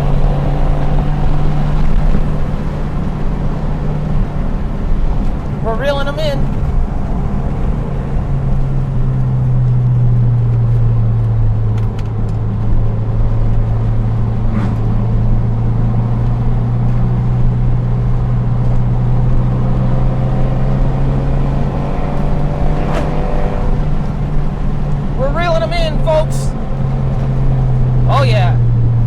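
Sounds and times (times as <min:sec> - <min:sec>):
car engine at high revs: 0:00.0 - 0:29.0
tyre and road noise: 0:00.0 - 0:29.0.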